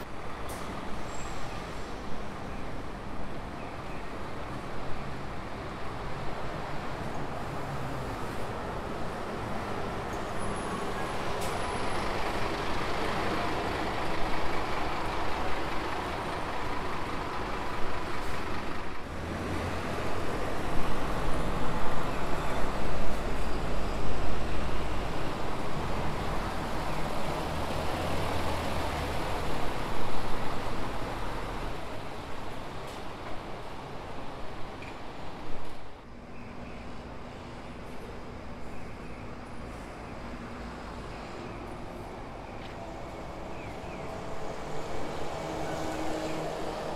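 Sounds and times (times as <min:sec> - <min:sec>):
bus driving past: 0:00.0 - 0:46.9
bus engine rumble: 0:00.0 - 0:46.9.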